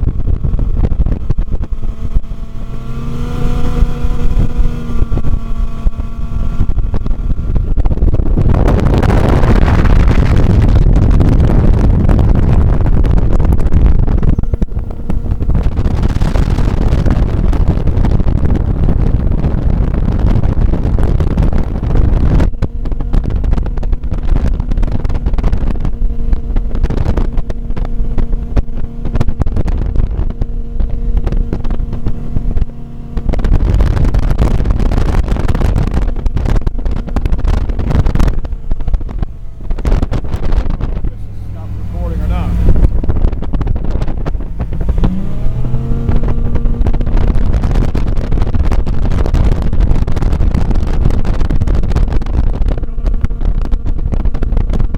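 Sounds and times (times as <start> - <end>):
boat engine drone: 0.0 - 54.9
wind rushing: 0.0 - 54.9.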